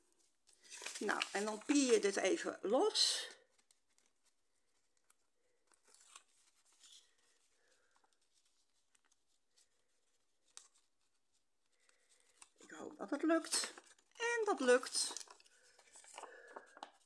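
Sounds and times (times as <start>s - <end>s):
paper rustling: 0.1s - 2.5s, 3.4s - 17.0s.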